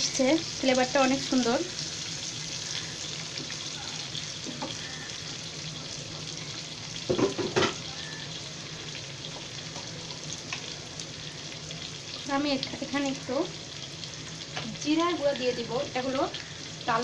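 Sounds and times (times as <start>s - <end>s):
curry sizzling in a pan: 0.0s - 17.0s.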